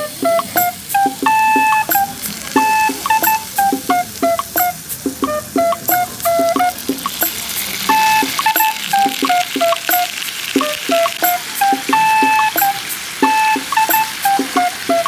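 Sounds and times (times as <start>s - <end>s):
recorder tune over plucked beat: 0.0s - 15.0s
meat sizzling on hot plate: 0.1s - 15.0s.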